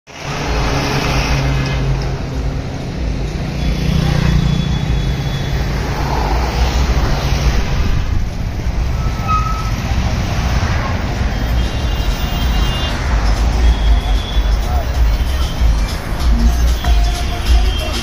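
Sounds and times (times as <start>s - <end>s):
road traffic rumble: 0.1s - 18.0s.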